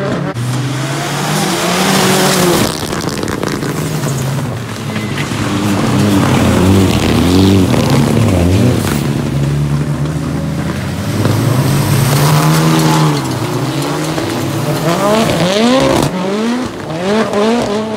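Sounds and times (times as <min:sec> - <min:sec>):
race car engines revving: 0:00.0 - 0:17.9.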